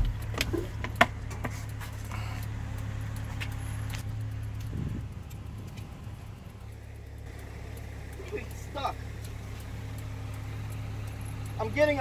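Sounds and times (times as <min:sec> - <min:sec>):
light clicks and rattles: 0:00.0 - 0:12.0
van engine idling: 0:00.0 - 0:12.0.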